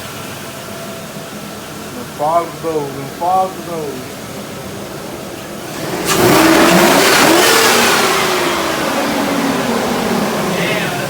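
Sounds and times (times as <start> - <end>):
truck engine revving: 0.0 - 11.0
intake rushing hiss: 0.1 - 11.0.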